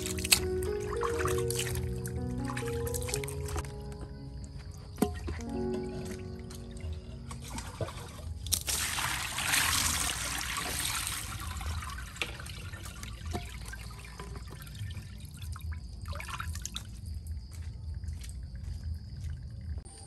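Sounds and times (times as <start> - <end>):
water pouring and splashing: 0.0 - 3.7, 4.9 - 17.4
water trickling and dripping: 0.0 - 19.9.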